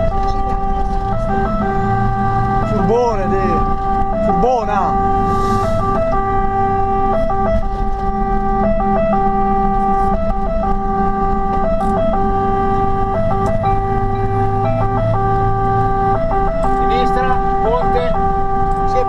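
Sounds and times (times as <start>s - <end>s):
truck engine rumbling: 0.0s - 19.0s
two-tone siren: 0.0s - 19.0s.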